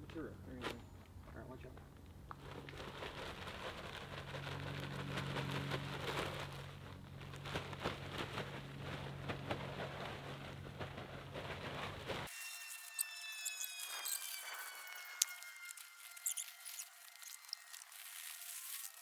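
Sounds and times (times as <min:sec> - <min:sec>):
crackle of loose material shifting: 0:01.7 - 0:19.0.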